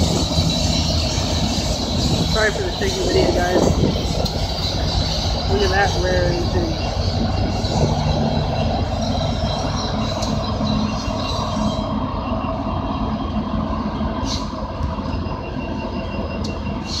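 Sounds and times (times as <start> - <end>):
locomotives rumbling past: 0.0 - 17.0.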